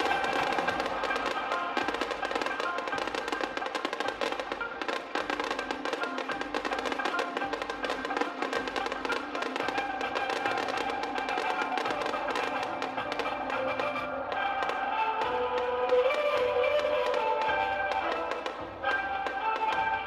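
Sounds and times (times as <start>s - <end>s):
crackling fireworks: 0.0s - 20.0s
show music: 0.0s - 20.0s.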